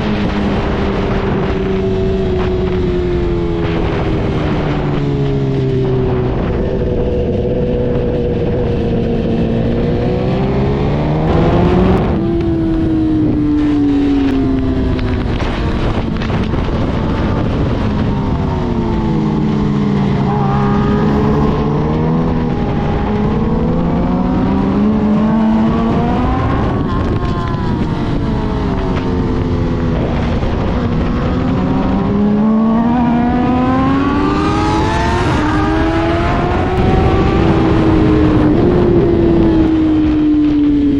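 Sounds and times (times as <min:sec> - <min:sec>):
motorcycle engine revving: 0:00.0 - 0:40.9
wind rushing: 0:00.0 - 0:40.9.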